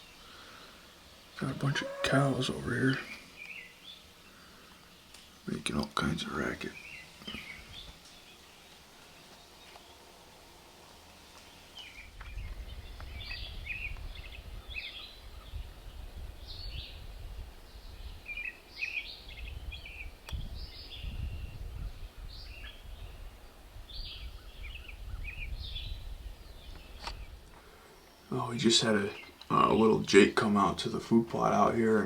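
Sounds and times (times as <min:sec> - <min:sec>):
songbirds chirping and singing: 0:00.0 - 0:32.0.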